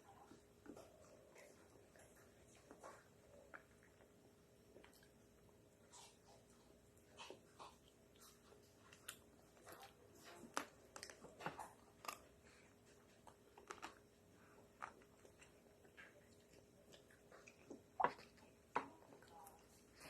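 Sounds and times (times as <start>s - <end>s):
person chewing with crunches: 0.1s - 20.0s.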